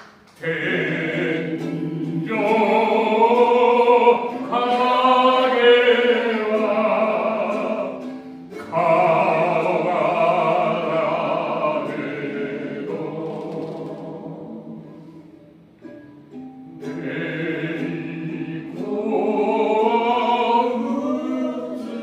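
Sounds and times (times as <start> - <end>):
musical accompaniment: 0.0 - 22.0
voices singing long notes: 0.4 - 15.5, 16.7 - 22.0.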